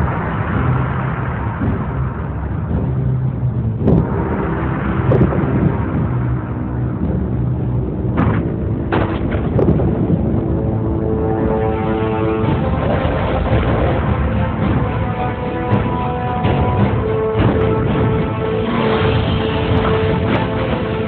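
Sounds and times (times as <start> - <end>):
deep rumble: 0.0 - 21.0
sharp booming hits: 0.0 - 21.0.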